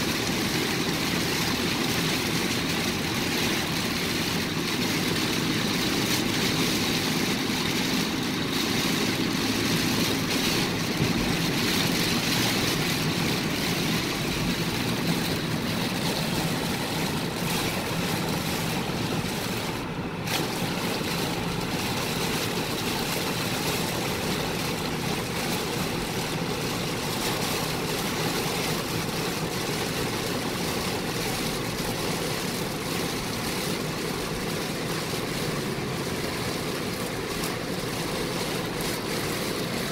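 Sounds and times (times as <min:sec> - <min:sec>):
heavy rain on car roof: 0:00.0 - 0:39.9
tyre and road noise: 0:00.0 - 0:39.9.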